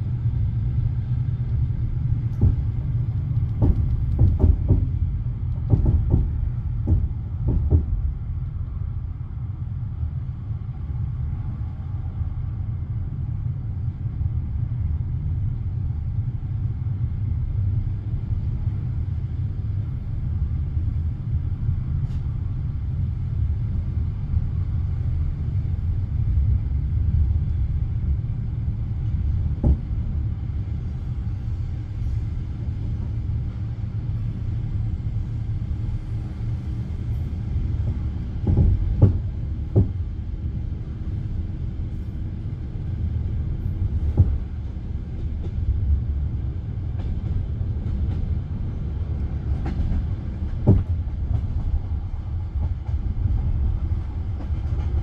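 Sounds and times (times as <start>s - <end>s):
train rumbling inside carriage: 0.0s - 55.0s.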